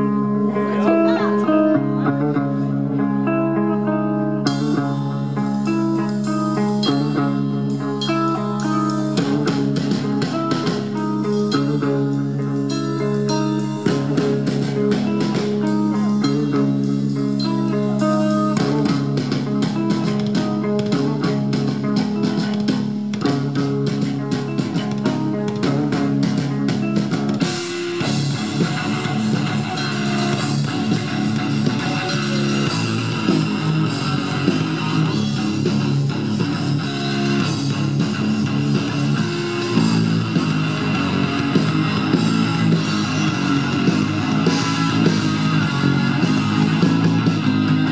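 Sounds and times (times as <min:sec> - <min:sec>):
rock band playing live: 0:00.0 - 0:47.9.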